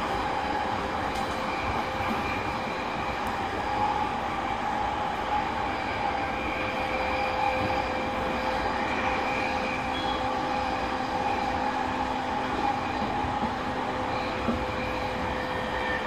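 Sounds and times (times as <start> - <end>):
electric train rumble and motor whine: 0.0 - 16.0.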